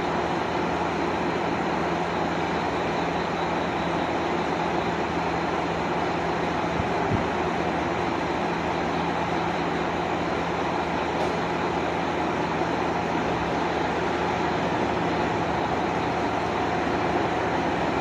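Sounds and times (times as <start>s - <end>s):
diesel railcar engine idling: 0.0s - 18.0s.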